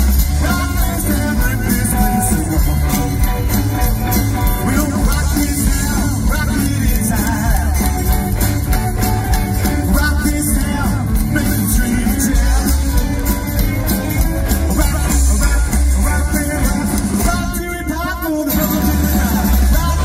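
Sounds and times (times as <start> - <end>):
upright double bass: 0.0 - 17.6, 18.5 - 20.0
drums: 0.0 - 20.0
guitars: 0.0 - 20.0.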